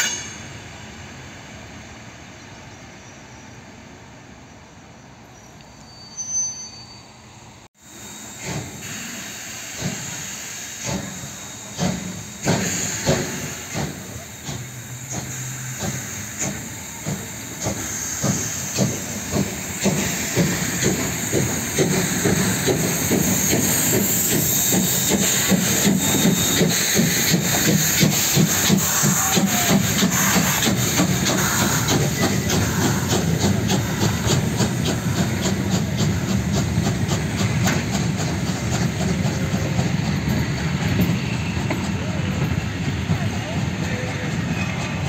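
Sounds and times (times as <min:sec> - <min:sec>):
steam hissing: 0:07.8 - 0:45.0
steam locomotive exhaust chuffs: 0:07.8 - 0:45.0.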